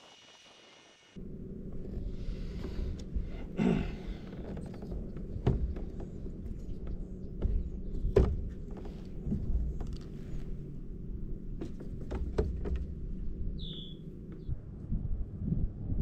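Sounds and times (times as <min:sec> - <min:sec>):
low steady rumble: 0:01.2 - 0:16.0.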